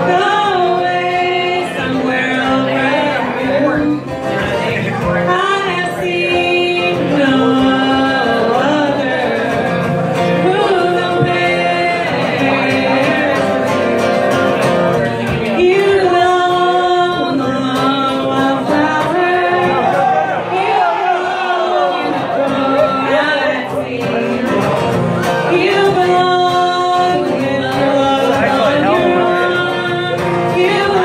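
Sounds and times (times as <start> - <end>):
woman singing lead: 0.0 - 4.3, 5.3 - 31.0
strummed acoustic guitar: 0.0 - 31.0
voices singing harmony: 5.3 - 14.2, 15.0 - 31.0.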